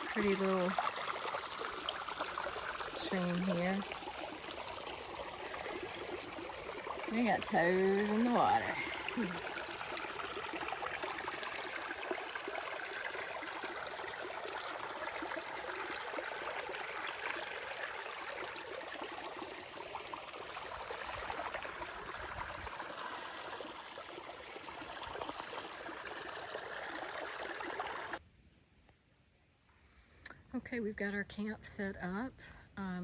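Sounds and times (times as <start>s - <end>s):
stream flowing over rocks: 0.0s - 28.2s.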